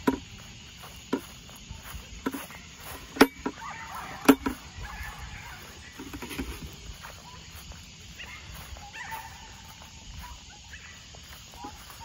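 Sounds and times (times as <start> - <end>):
footsteps in grass: 0.0 - 12.0.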